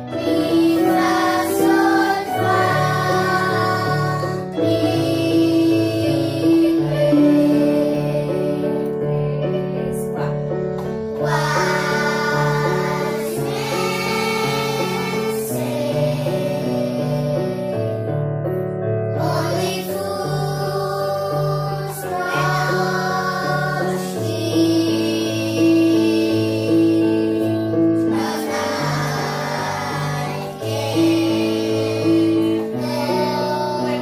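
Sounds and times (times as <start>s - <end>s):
children singing together: 0.0s - 9.2s, 10.8s - 18.1s, 19.1s - 34.0s.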